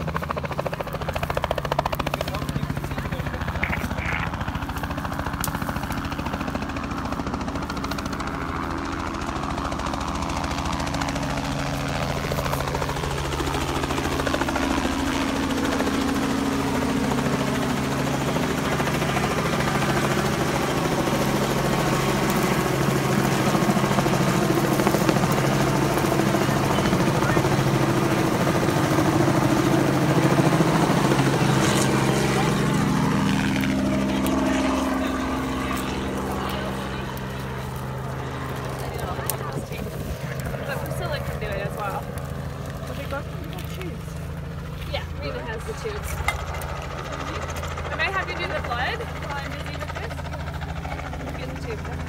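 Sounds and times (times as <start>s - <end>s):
rotor aircraft droning overhead: 0.0s - 52.0s.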